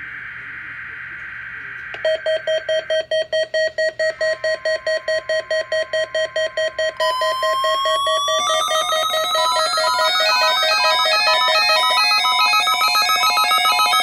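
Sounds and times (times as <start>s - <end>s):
steady alarm tone: 0.0s - 14.0s
fast alarm beeping: 2.0s - 14.0s.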